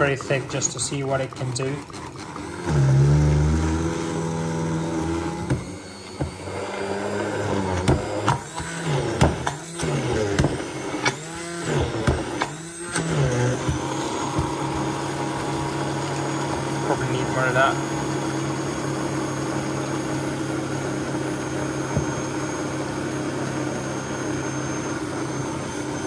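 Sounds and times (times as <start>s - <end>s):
hand blender motor straining: 0.0s - 26.0s.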